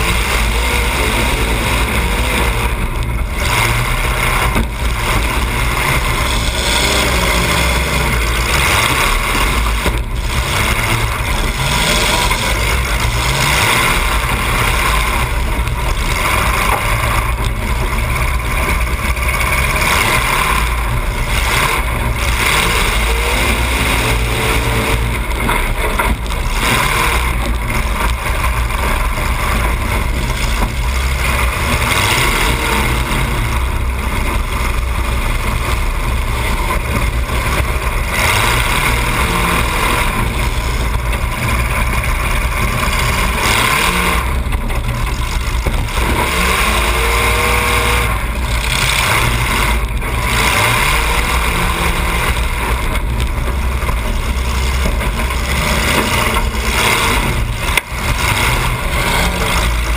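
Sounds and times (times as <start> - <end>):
car engine revving loudly: 0.0 - 59.9.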